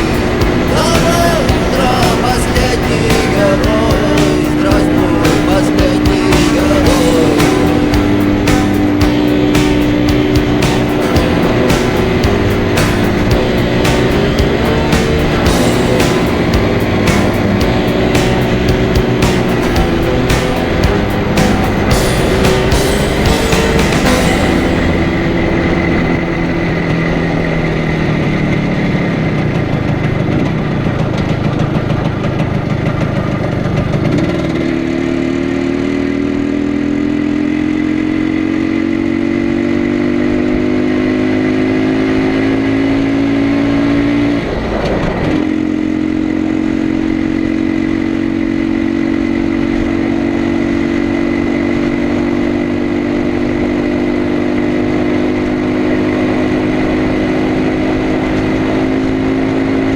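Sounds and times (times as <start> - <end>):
two-stroke motorcycle engine: 0.0 - 59.9.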